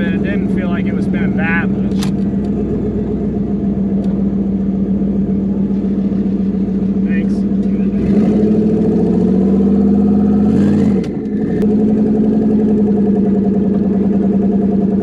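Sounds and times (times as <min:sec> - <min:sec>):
car engine running steadily: 0:00.0 - 0:15.0.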